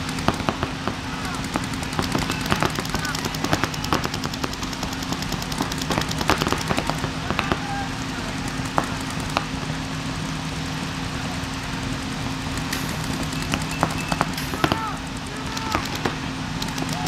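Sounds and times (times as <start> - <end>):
paintball markers firing: 0.0 - 9.9, 12.2 - 17.0.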